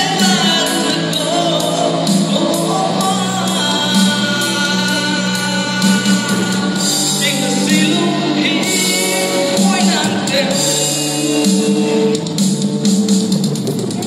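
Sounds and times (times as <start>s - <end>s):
man singing into microphone: 0.0s - 12.1s
backing music: 0.0s - 14.0s.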